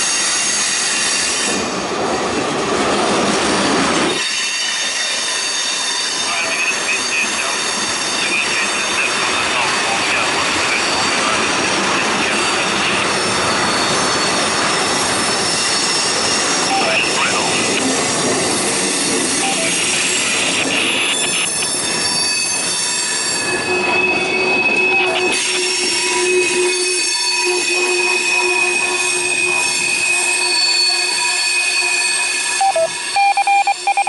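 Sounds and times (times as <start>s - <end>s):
wheels squealing on rails: 0.0s - 2.0s, 2.7s - 34.0s
train rolling past: 0.0s - 34.0s.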